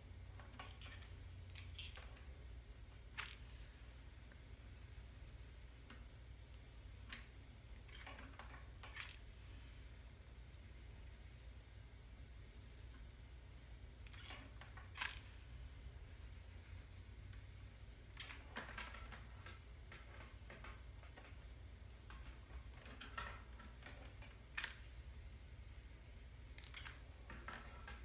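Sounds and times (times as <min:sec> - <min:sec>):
low steady hum: 0:00.0 - 0:28.0
hair rustling through flat iron: 0:00.1 - 0:28.0.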